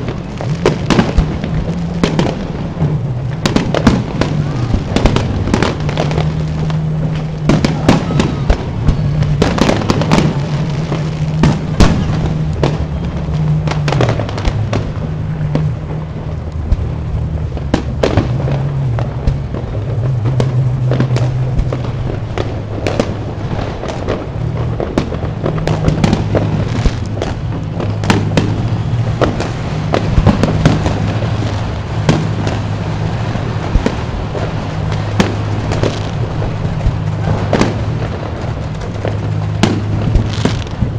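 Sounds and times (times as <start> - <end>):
firework bangs and crackles: 0.0 - 40.9.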